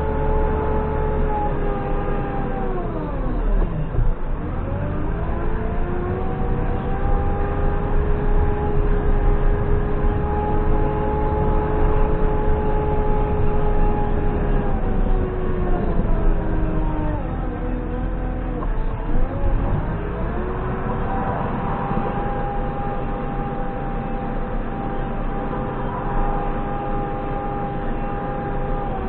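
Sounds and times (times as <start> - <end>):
backhoe loader engine rumbling: 0.0 - 29.0.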